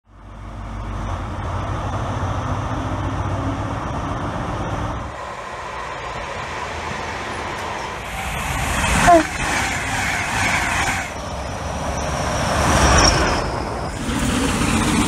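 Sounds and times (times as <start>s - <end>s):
diesel engine humming: 0.1s - 15.0s
train rolling past on track: 0.2s - 15.0s.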